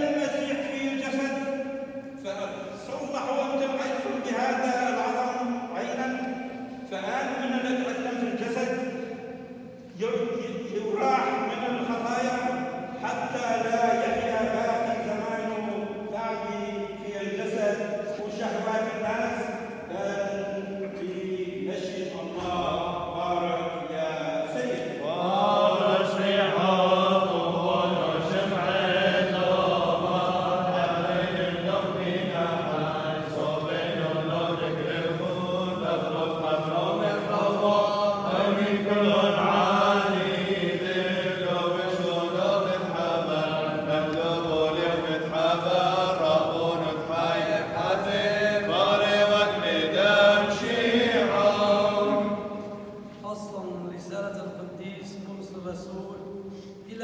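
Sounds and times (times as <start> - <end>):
liturgical chant singing: 0.0 - 57.0.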